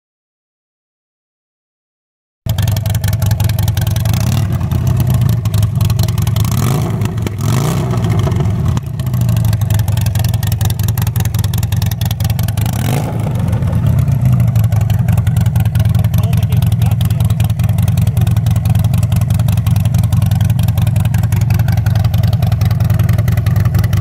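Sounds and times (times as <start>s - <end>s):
motorcycle engine idling and revving: 2.5s - 24.0s.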